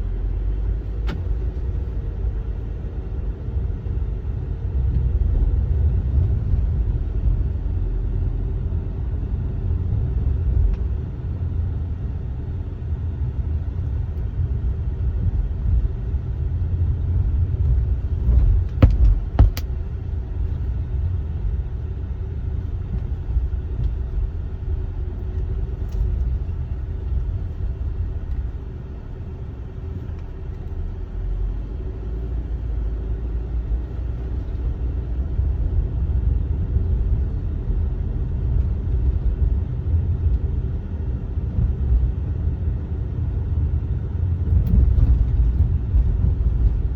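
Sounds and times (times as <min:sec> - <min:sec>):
car road and engine rumble: 0:00.0 - 0:46.9.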